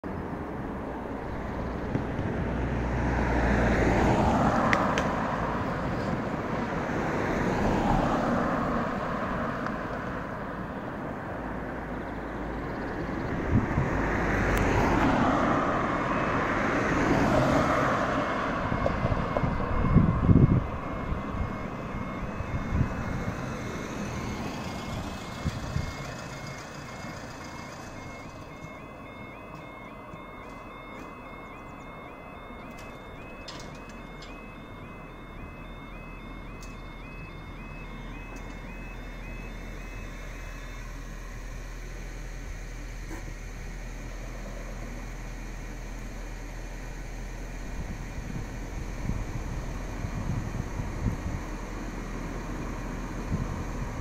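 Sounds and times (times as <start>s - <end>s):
cars passing: 0.0s - 54.0s
two-tone warning alarm: 0.9s - 54.0s.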